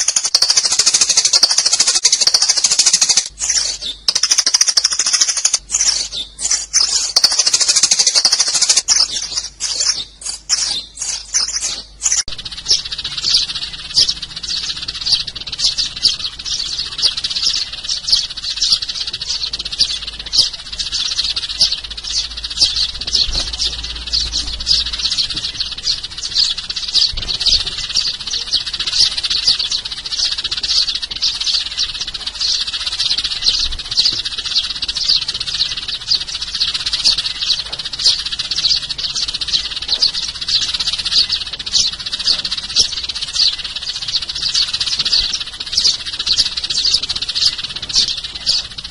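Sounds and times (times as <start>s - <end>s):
sparrows chirping: 0.0s - 48.9s.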